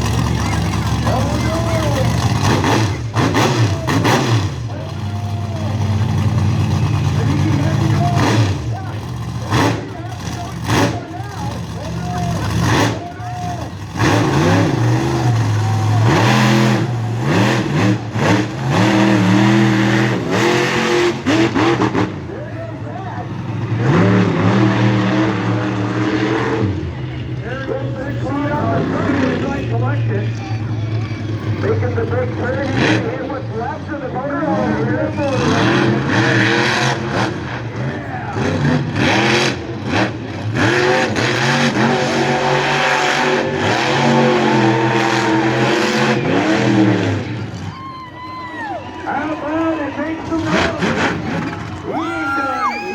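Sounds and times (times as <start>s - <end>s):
monster truck engine revving: 0.0s - 52.9s.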